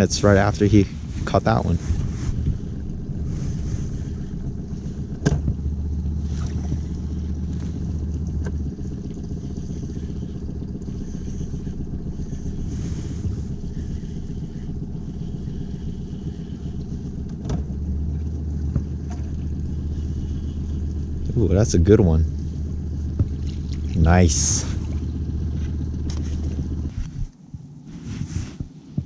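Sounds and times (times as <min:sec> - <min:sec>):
outboard motor humming: 0:00.0 - 0:29.0.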